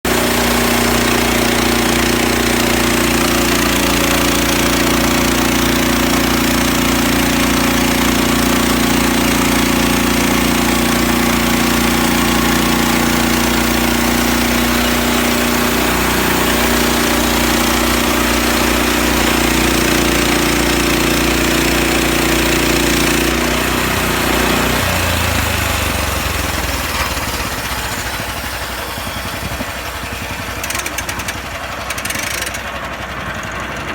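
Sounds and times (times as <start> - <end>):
sawmill engine: 0.0 - 33.9.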